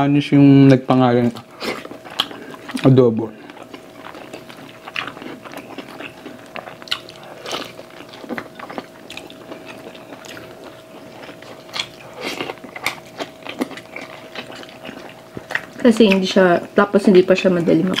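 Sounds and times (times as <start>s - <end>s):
faint steady hum: 0.0s - 18.0s
people chewing with mouth smacks: 0.6s - 16.7s, 17.4s - 18.0s.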